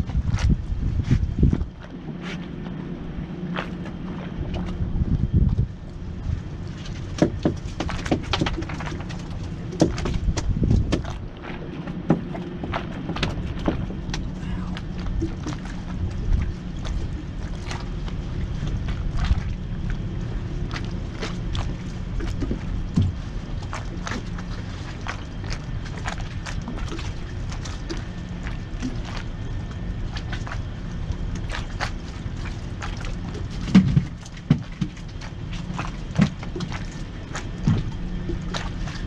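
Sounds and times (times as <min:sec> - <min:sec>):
steady low hum: 0:00.0 - 0:39.0
knocks and taps on boat: 0:03.5 - 0:39.0.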